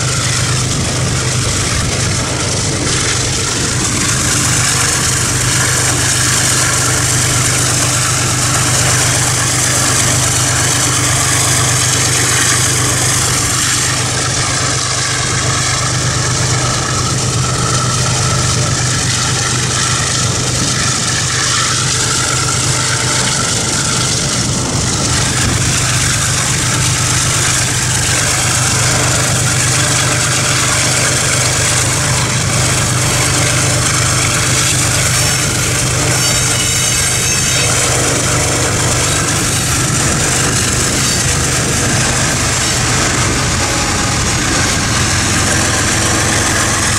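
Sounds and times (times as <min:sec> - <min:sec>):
car engine drone: 0:00.0 - 0:46.9
road and wind noise: 0:00.0 - 0:46.9.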